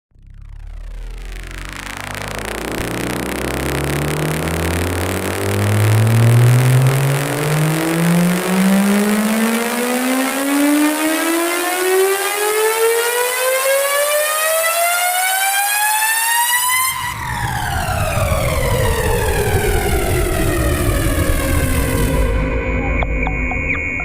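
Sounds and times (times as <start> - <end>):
test tone sweeping upward: 0.1 - 24.0.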